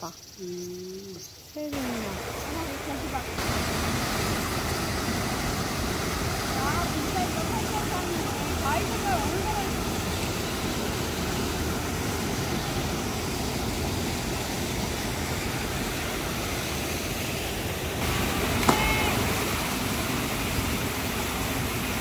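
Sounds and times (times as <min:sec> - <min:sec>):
waterfall pouring over rocks: 0:01.7 - 0:22.0.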